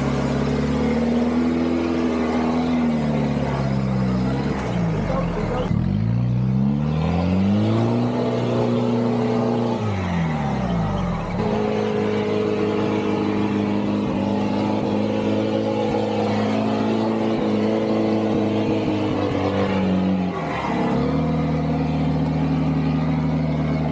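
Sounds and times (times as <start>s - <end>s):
off-road engine under load: 0.0s - 23.9s.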